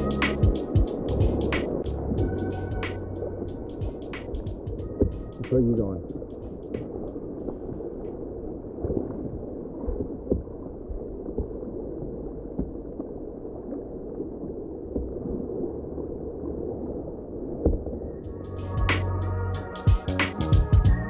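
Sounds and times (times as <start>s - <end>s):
muffled water rushing: 0.0s - 21.0s.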